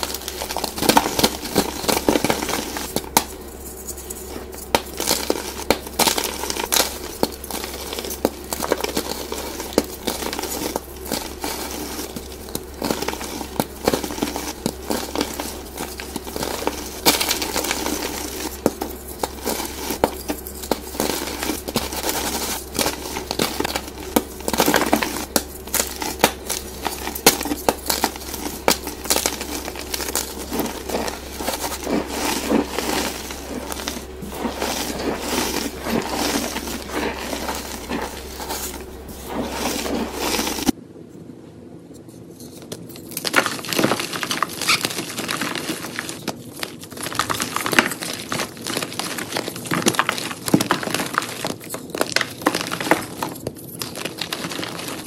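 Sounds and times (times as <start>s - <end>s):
chalk crackling and crunching: 0.0s - 40.8s, 42.4s - 55.0s
steady low hum: 0.0s - 55.0s.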